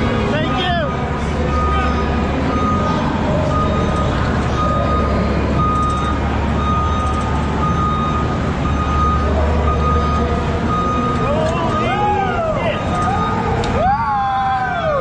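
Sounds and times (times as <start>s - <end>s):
tractor engine idling: 0.0s - 13.8s
backup alarm beeping: 0.7s - 12.1s, 12.8s - 13.6s.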